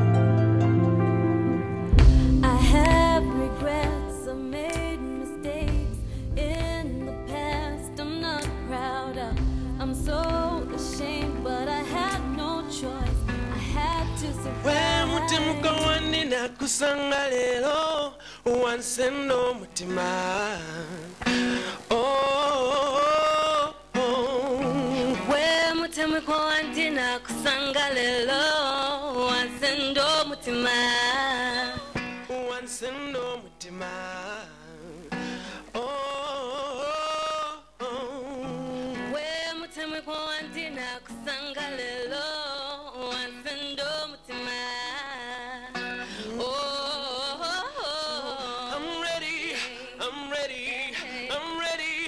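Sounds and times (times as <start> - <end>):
song with sung melody: 0.0 - 52.0.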